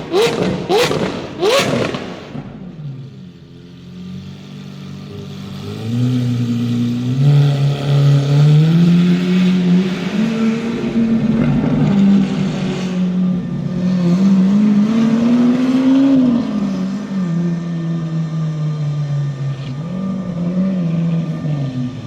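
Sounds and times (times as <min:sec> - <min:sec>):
sports car engine accelerating: 0:00.0 - 0:22.0.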